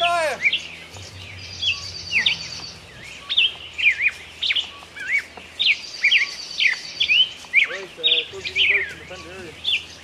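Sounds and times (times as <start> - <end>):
high rapid bird trill: 0.0 - 10.0
songbirds chirping: 0.0 - 10.0.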